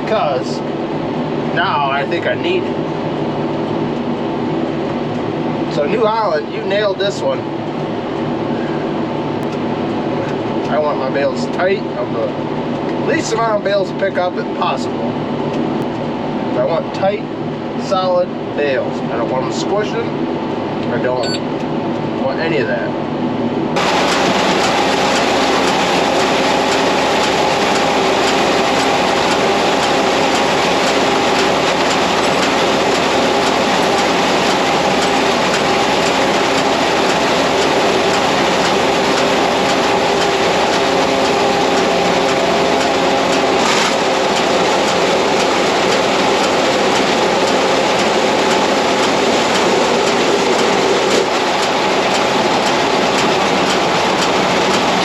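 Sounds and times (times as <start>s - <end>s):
tractor and baler running: 0.0s - 20.3s, 23.8s - 55.0s.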